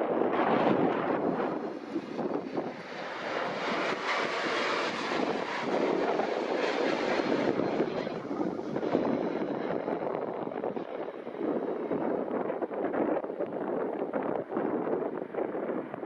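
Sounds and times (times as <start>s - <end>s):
jet engines rushing: 0.0s - 16.0s
wind on microphone: 0.0s - 16.0s.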